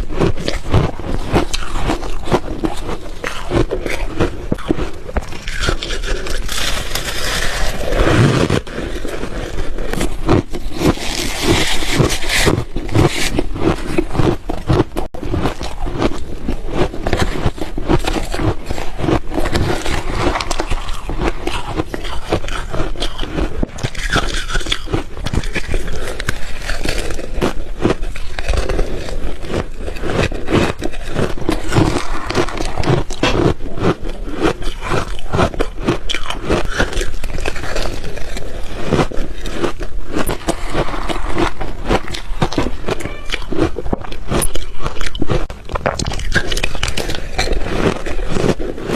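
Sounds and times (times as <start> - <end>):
ice being crunched and chewed: 0.0 - 48.9.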